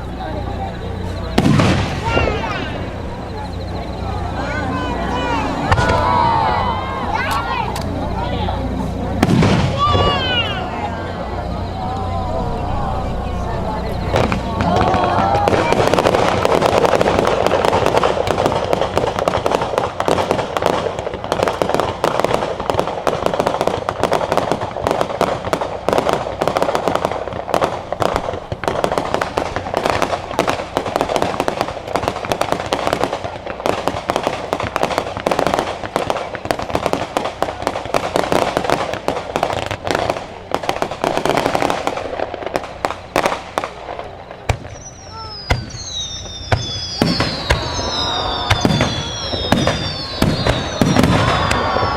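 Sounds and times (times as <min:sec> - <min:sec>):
fireworks crackling: 0:00.0 - 0:51.9.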